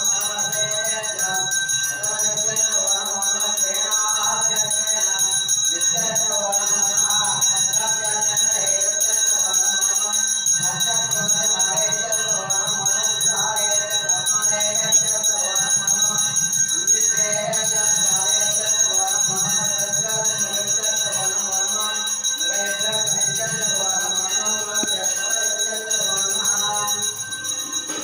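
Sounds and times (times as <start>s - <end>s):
temple bells ringing: 0.0s - 28.0s.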